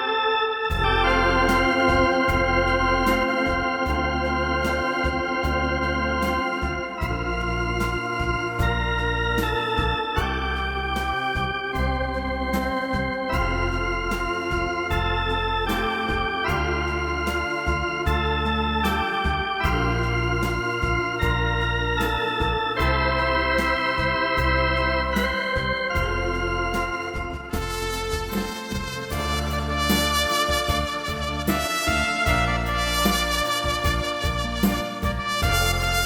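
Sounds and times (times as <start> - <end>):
electronic organ ballad: 0.0 - 36.0
steady drum beat: 0.7 - 36.0.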